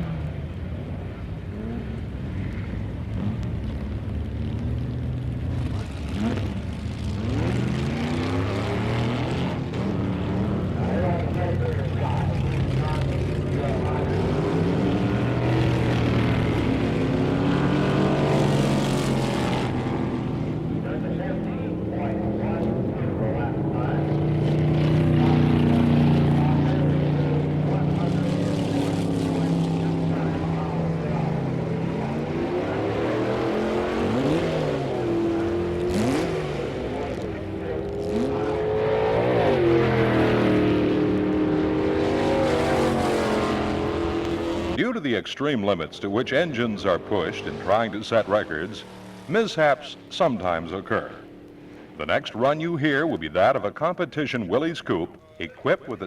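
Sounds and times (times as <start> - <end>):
race car engine running: 0.0 - 44.8, 46.1 - 52.4.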